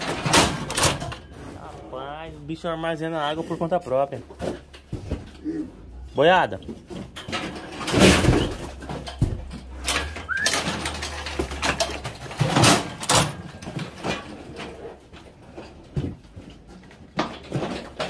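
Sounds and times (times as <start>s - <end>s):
knocks and clattering: 0.0s - 18.0s.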